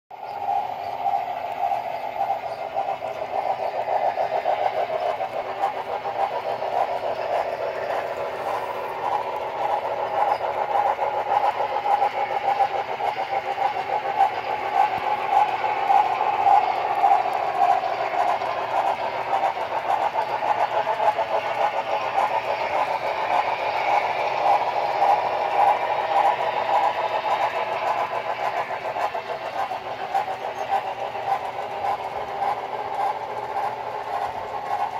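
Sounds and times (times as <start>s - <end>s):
wheels clicking on track: 0.1s - 34.9s
model train motors whirring: 0.2s - 34.9s.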